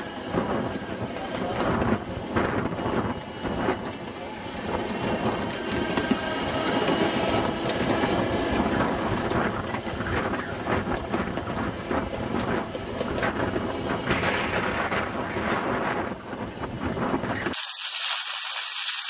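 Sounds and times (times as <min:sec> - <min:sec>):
train wheels clattering on rails: 0:00.0 - 0:17.6.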